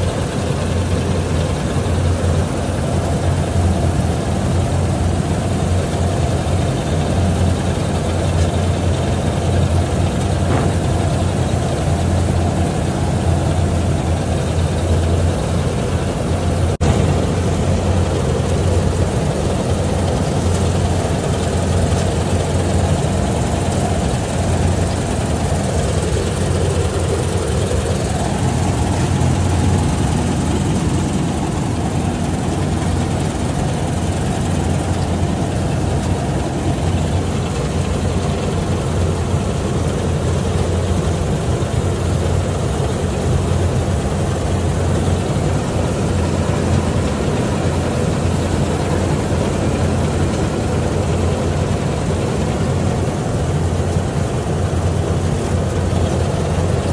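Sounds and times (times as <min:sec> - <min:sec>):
combine harvester drone: 0:00.0 - 0:56.9.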